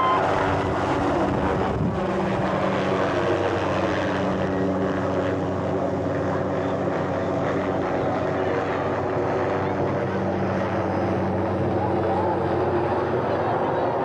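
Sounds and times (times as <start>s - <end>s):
helicopter drone: 0.0s - 14.0s.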